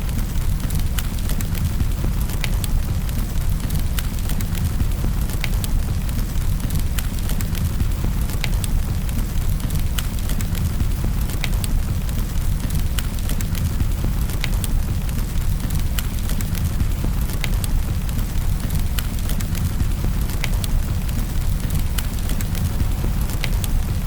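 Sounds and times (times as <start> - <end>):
rain hiss: 0.0 - 24.0
wood fire crackling: 0.0 - 24.0.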